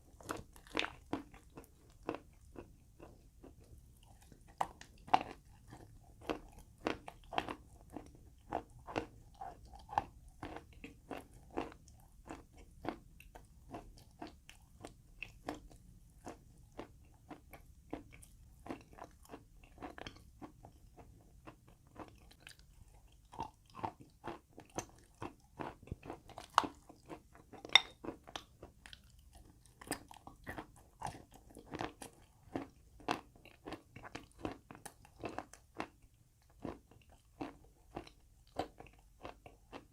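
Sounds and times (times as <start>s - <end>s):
chalk crunching as chewed: 0.0s - 39.9s.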